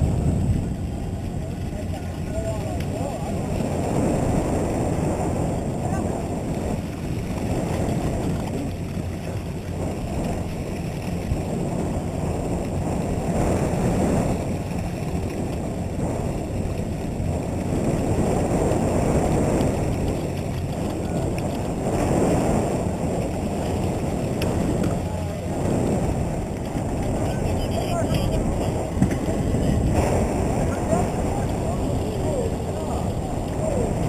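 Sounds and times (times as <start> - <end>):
boat engine hum: 0.0 - 34.0
water washing along hull: 0.0 - 34.0
wind buffeting microphone: 0.0 - 34.0.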